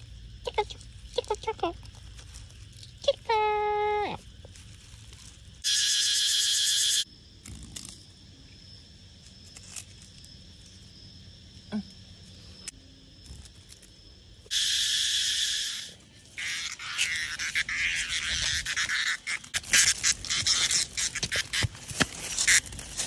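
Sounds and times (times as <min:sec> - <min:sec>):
cicada buzzing: 0:00.0 - 0:23.0.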